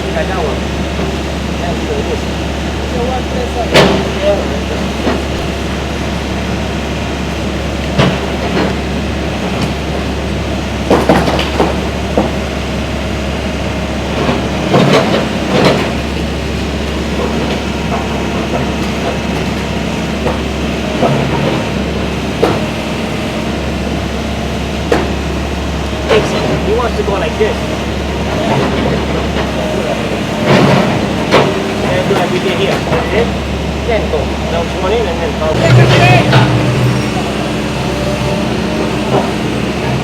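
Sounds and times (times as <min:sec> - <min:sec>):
demolition machine engine hum: 0:00.0 - 0:40.0.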